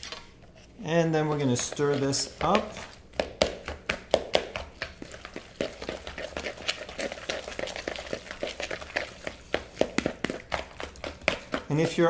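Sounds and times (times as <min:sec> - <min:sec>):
wet mashing squishes: 0:01.0 - 0:12.0.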